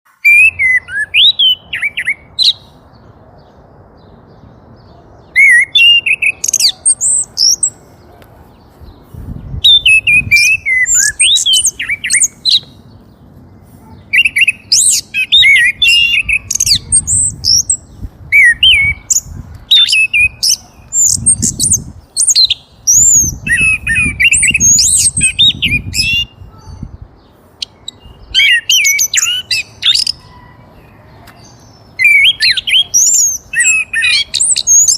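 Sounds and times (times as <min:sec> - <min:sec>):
bird chirping and squawking: 0:04.8 - 0:08.0, 0:08.9 - 0:34.9.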